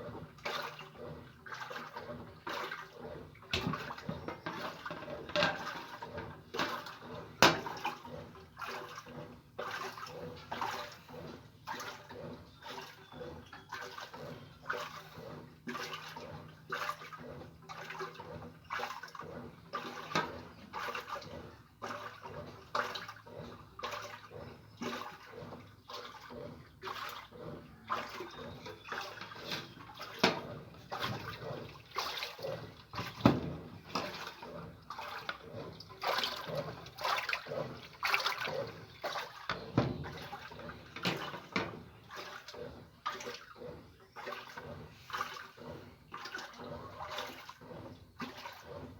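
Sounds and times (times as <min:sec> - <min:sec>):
water sloshing in washing machine: 0:00.0 - 0:48.9.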